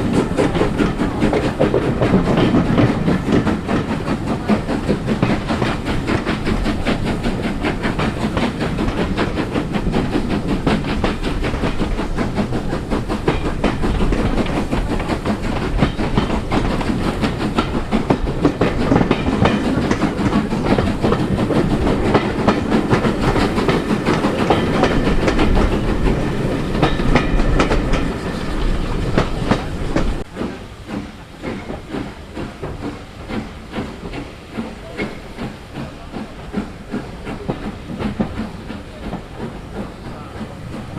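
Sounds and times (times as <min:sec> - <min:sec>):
train wheels clattering over rail joints: 0:00.0 - 0:40.9.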